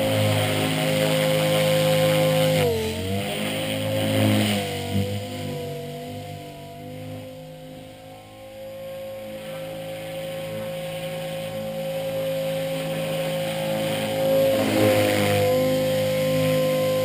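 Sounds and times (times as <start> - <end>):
rc helicopter motor and rotor whine: 0.0 - 17.0.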